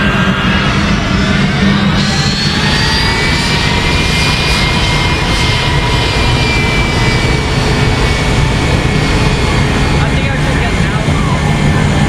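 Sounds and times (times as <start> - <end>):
jet blast rumbling on microphone: 0.0 - 12.0
jet engines roaring with whine: 0.0 - 12.0.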